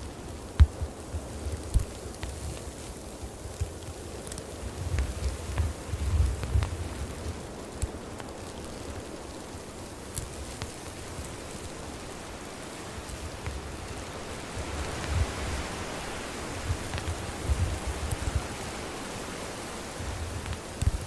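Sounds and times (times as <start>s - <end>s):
campfire burning and crackling: 0.0s - 21.0s.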